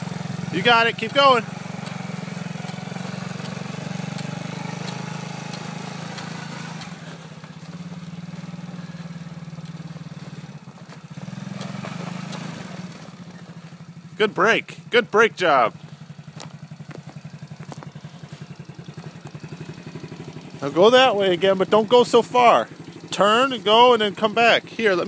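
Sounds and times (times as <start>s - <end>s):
small atv engine running: 0.0s - 25.0s.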